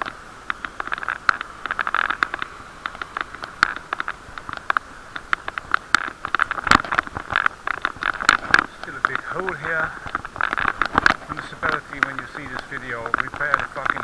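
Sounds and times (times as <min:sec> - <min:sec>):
bike clicks and rattles: 0:00.0 - 0:14.0
muffled rolling and wind rush: 0:00.0 - 0:14.0.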